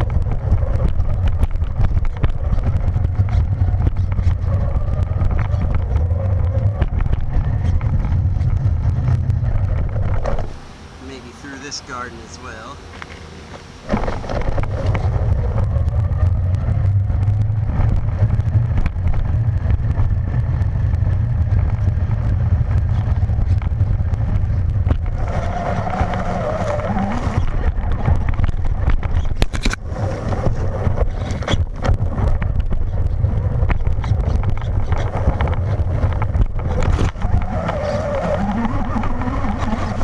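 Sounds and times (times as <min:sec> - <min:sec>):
toy truck driving over pavement: 0:00.0 - 0:10.6, 0:12.9 - 0:40.0
chassis and wheels rattling: 0:00.0 - 0:40.0
rising motor whine: 0:00.0 - 0:40.0.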